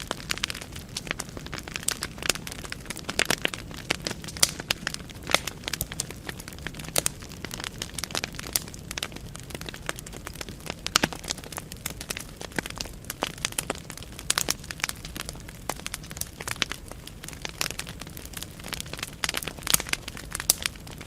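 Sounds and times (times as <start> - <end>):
burning logs crackling and popping: 0.0 - 21.0
low rush of flame: 0.0 - 21.0.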